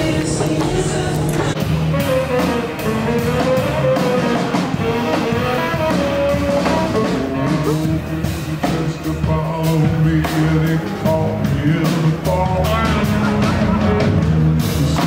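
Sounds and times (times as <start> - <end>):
band music with drum beat: 0.0 - 15.0.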